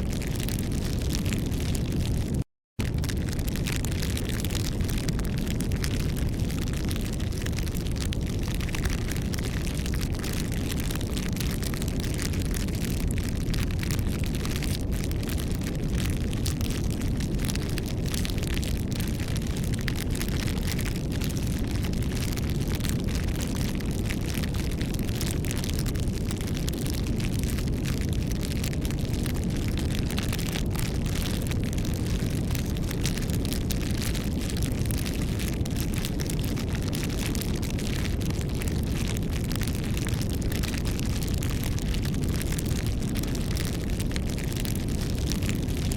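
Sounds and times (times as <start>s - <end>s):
bonfire rumble: 0.0s - 45.9s
fire crackling and popping: 0.0s - 45.9s.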